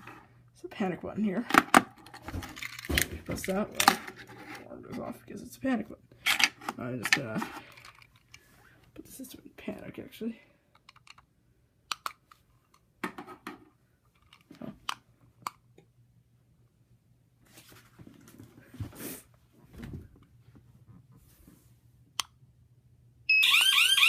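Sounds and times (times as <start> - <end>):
faint steady hum: 0.0 - 23.4.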